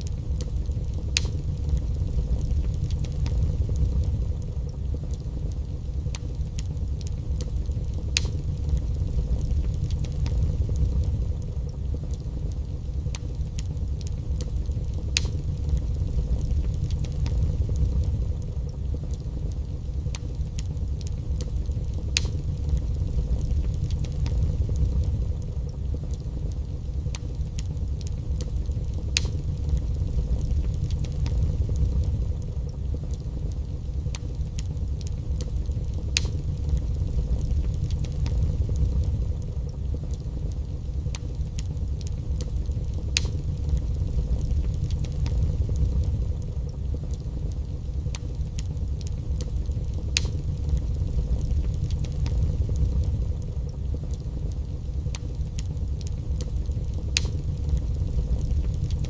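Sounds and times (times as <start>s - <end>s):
fire crackling and popping: 0.0s - 59.0s
fire roaring: 0.0s - 59.0s.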